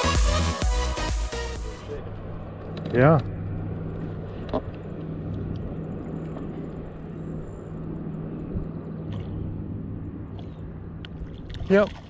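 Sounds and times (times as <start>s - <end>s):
boat motor humming: 0.0s - 12.0s
wind and water noise: 1.6s - 12.0s.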